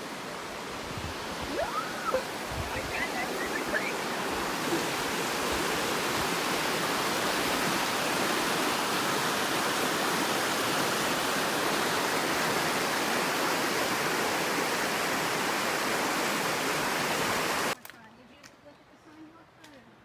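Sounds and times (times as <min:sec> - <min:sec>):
waterfall over rocks: 0:00.0 - 0:17.8.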